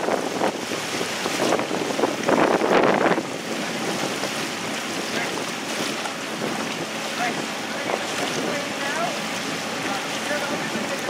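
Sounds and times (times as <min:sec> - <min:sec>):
water rushing past boat: 0:00.0 - 0:11.0
wind buffeting microphone: 0:00.0 - 0:11.0.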